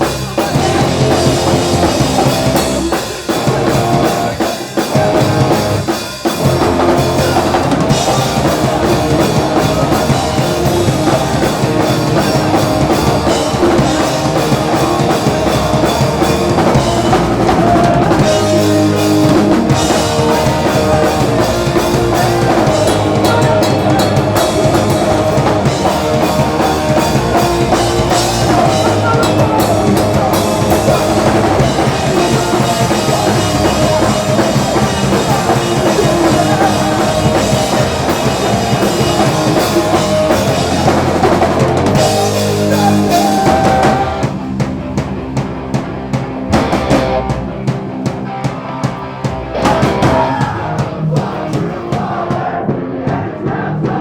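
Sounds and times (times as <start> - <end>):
bass drum: 0.0 - 4.4, 5.0 - 48.4, 49.3 - 54.0
live rock band playing: 0.0 - 54.0.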